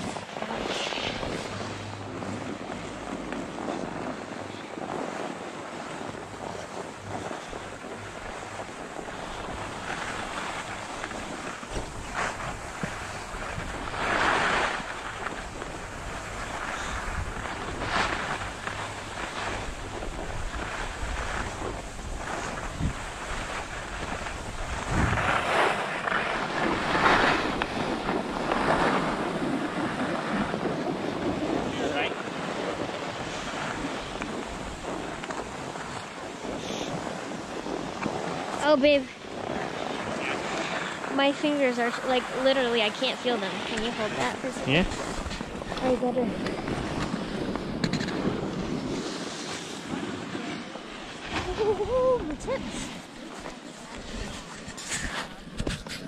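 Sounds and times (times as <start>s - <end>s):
skis sliding over snow: 0.0s - 56.0s
wind buffeting microphone: 0.0s - 56.0s.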